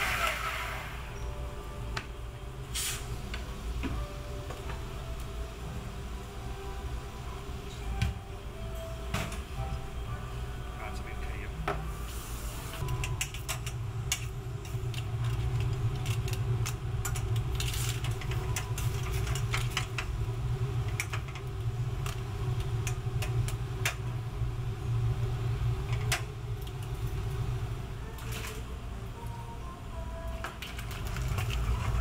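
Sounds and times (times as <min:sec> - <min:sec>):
burner and exhaust hum: 0:00.0 - 0:32.0.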